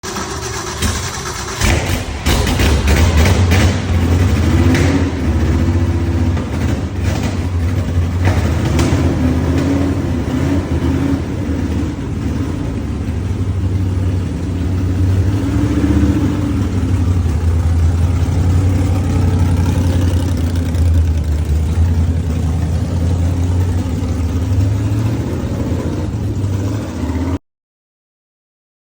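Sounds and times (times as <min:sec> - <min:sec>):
engine cracks: 0:00.0 - 0:26.8
loud rough engine running: 0:00.0 - 0:27.4.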